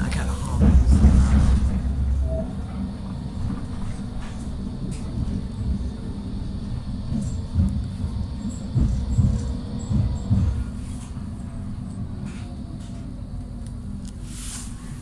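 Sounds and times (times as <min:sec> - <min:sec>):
tram jolts: 0:00.0 - 0:15.0
tram rumbling on track: 0:00.0 - 0:15.0.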